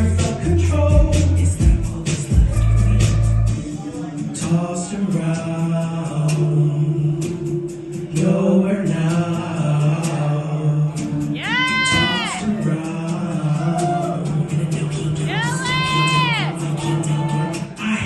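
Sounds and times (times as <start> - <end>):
heavy bass beat: 0.0 - 18.0
live pop song over a pa: 0.0 - 18.0.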